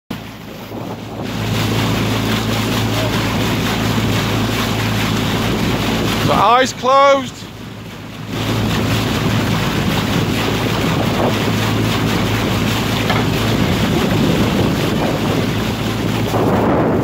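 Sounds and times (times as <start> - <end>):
outboard motor humming: 0.1 - 17.0
water rushing: 0.1 - 17.0
wind buffeting microphone: 0.1 - 17.0.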